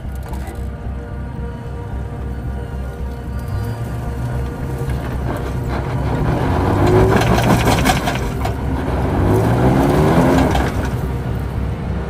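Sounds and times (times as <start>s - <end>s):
tyres crunching over dirt and rock: 0.0s - 11.7s
truck engine revving: 0.0s - 12.0s.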